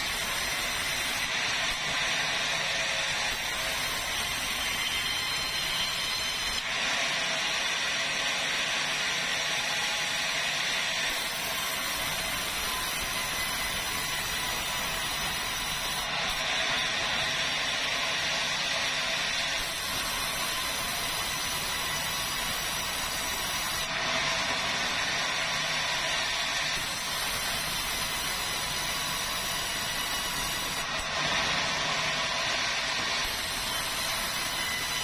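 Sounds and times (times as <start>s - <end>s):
band saw whine: 0.0s - 35.0s
blade hissing through wood: 0.0s - 35.0s.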